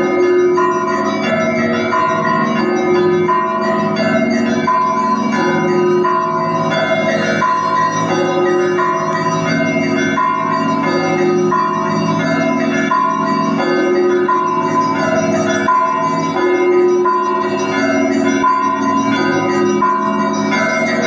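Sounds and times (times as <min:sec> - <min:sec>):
high church bells ringing: 0:00.0 - 0:21.0
hum of large bells: 0:00.0 - 0:21.0.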